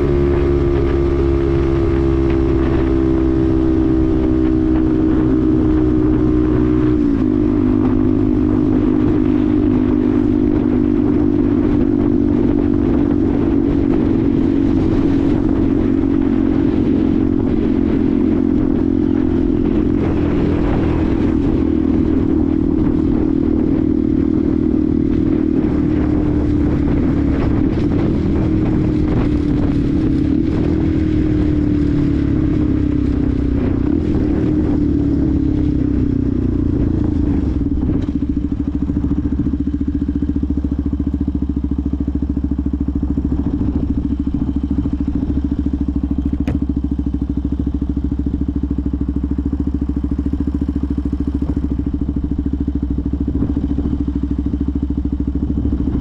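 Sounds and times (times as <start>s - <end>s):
motorcycle engine: 0.0s - 56.0s
road and wind noise: 0.0s - 56.0s.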